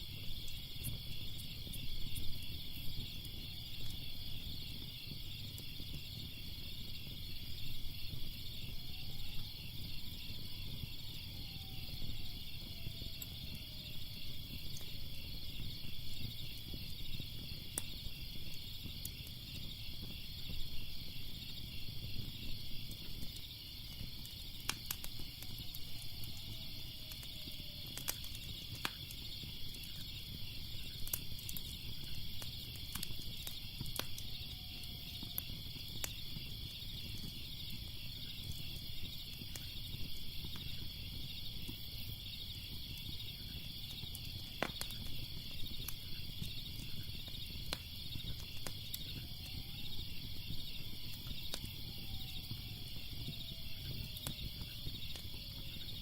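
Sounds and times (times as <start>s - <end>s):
crickets chirping: 0.0s - 56.0s
wood fire crackling: 0.0s - 56.0s.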